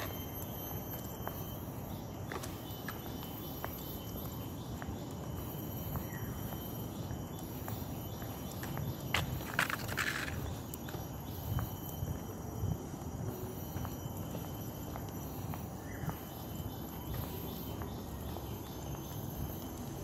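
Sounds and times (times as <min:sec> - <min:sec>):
footsteps on tiled paving: 0:00.0 - 0:20.0
high insect trill: 0:00.0 - 0:20.0.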